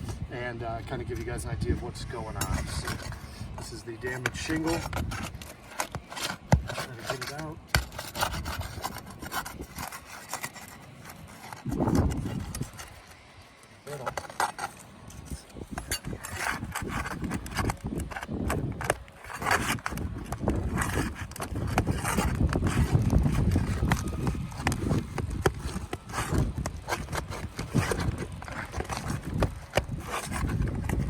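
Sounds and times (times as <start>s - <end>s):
hand tools knocking and scraping: 0.8s - 13.2s, 13.9s - 31.0s.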